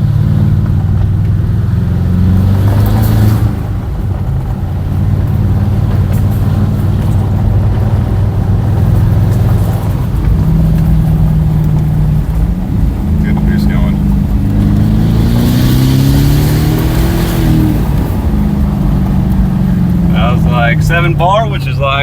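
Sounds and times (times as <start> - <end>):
loud raspy car engine: 0.0 - 22.0.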